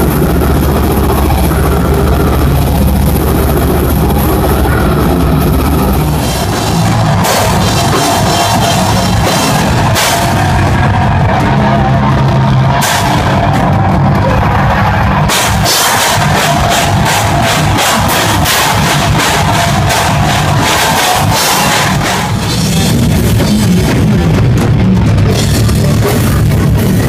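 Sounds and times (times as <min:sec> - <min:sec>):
drum kit with cymbals: 0:00.0 - 0:14.2, 0:15.1 - 0:27.0
distorted electric guitars: 0:00.0 - 0:27.0.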